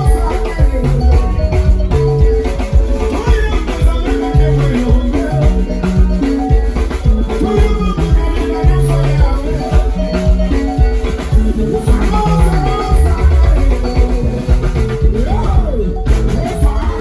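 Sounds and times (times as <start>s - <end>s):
bass line: 0.0s - 17.0s
live rumba band: 0.0s - 17.0s
shaker: 0.0s - 17.0s.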